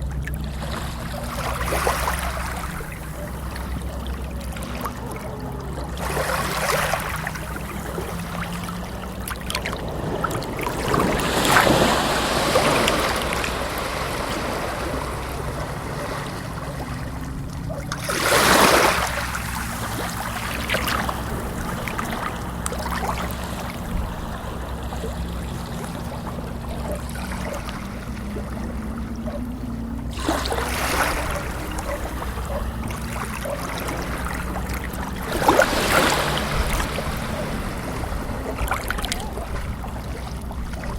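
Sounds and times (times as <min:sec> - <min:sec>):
steady low hum: 0:00.0 - 0:40.9
water washing in swells: 0:00.0 - 0:40.9.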